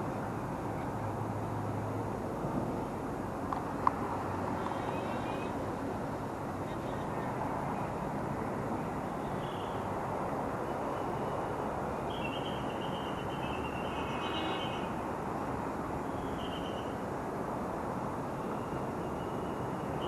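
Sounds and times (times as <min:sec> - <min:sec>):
vehicle wind and road noise: 0:00.0 - 0:20.0.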